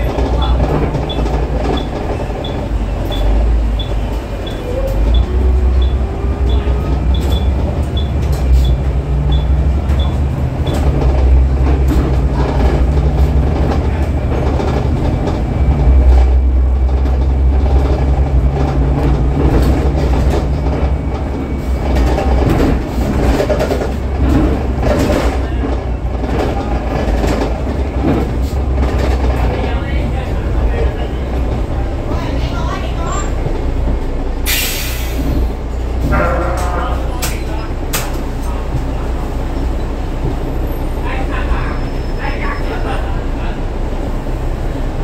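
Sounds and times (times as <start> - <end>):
bus engine drone: 0.0 - 45.0
road rumble: 0.0 - 45.0.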